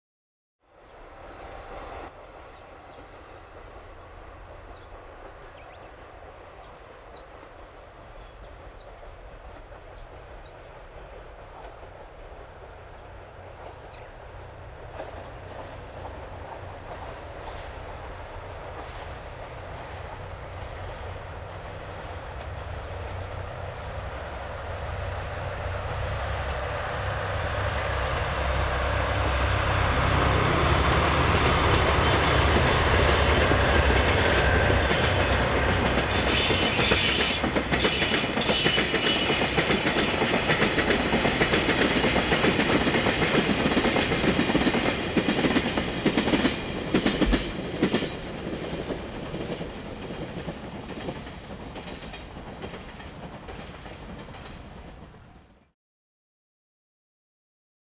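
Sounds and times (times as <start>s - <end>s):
diesel locomotive engines rumbling: 0.8s - 55.6s
train wheels rolling on rails: 0.9s - 55.7s.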